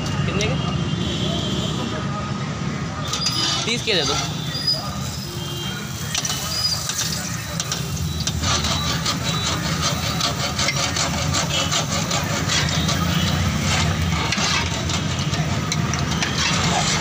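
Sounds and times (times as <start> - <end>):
oil sizzling and crackling: 3.1 - 17.0.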